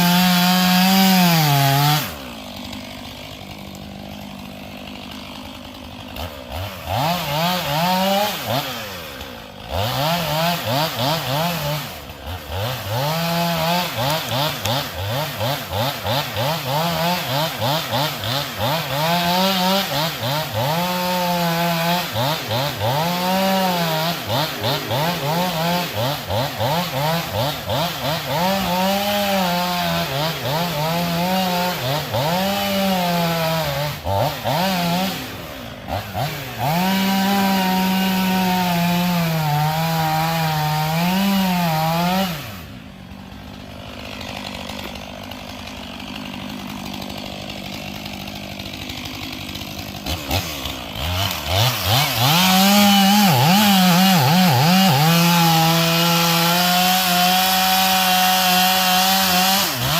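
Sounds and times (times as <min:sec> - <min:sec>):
chainsaw revving while cutting: 0:00.0 - 0:59.9.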